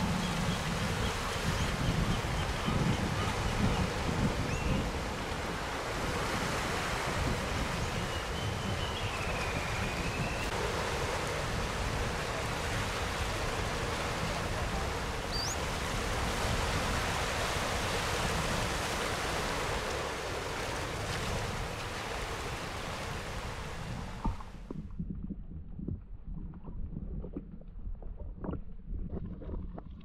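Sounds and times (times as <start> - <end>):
surf washing over rocks: 0.0 - 24.7.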